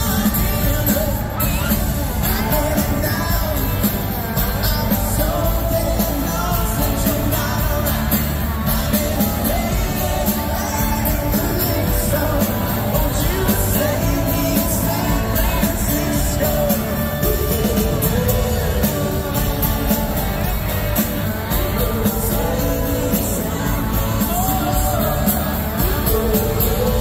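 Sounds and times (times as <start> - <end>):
drums: 0.0 - 27.0
electric guitars: 0.0 - 27.0
man singing lead vocal: 0.0 - 27.0.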